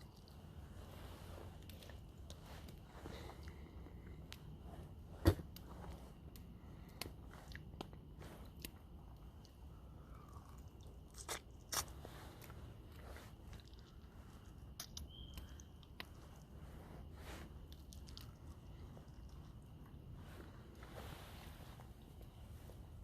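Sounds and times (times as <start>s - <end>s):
quiet chewing: 0.0s - 23.0s
small clicks and crunches: 1.4s - 23.0s.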